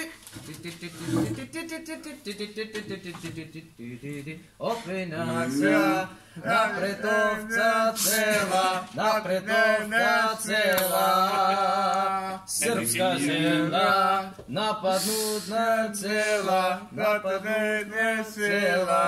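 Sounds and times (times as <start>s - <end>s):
man singing a cappella: 0.0s - 19.0s.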